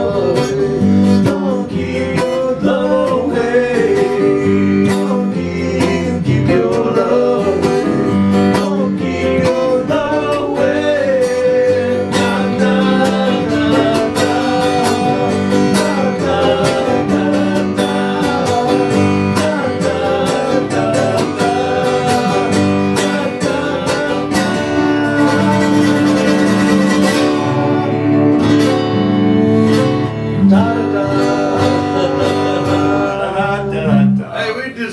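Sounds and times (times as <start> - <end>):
country music with acoustic guitar: 0.0 - 34.2.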